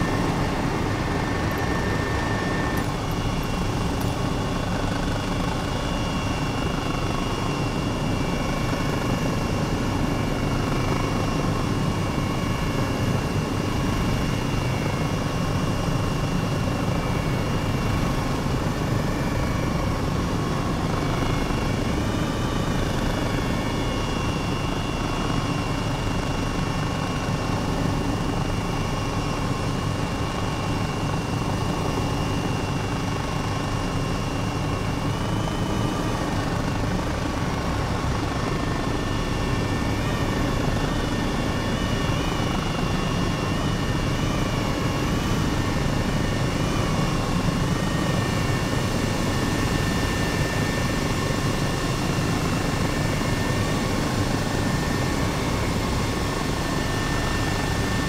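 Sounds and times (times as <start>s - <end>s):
helicopter drone and whine: 0.0s - 58.0s.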